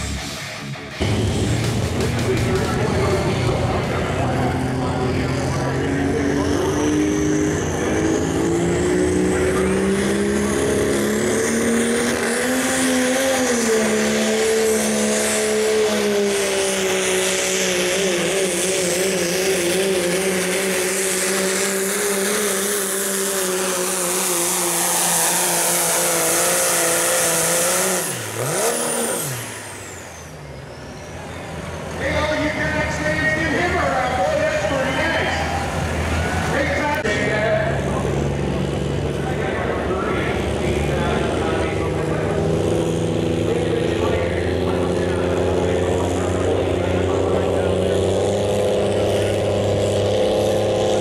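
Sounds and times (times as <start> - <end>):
diesel truck engine running flat out: 0.0 - 51.0.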